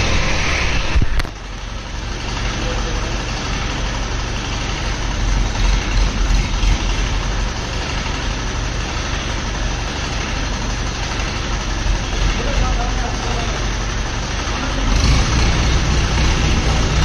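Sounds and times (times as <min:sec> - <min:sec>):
crane engine rumbling: 0:00.0 - 0:17.0.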